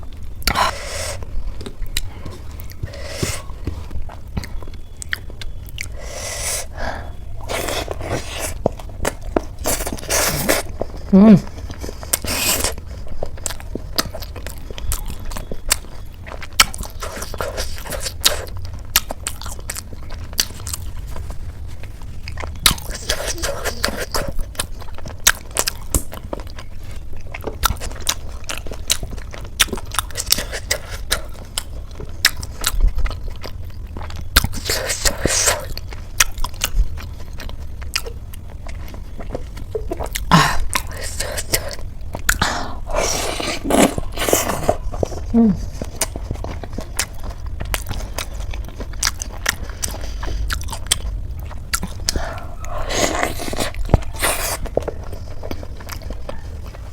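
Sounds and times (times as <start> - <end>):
steady low hum: 0.0 - 56.9
wet chewing: 0.0 - 56.9.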